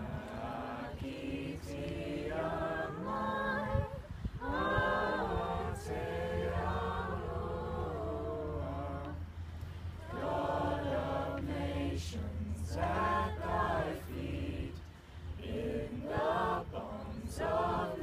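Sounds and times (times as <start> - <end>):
young voices singing unaccompanied: 0.0 - 18.0.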